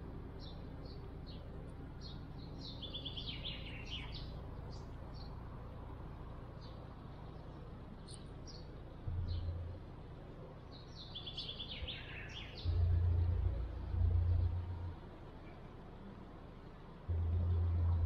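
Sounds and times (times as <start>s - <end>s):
low background hum: 0.0s - 18.0s
songbirds chirping: 0.0s - 18.0s.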